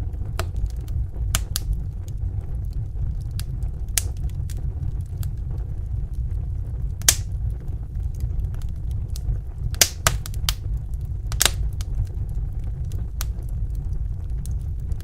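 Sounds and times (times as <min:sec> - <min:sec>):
low rumble of burning fire: 0:00.0 - 0:15.0
wood fire pops: 0:00.0 - 0:15.0.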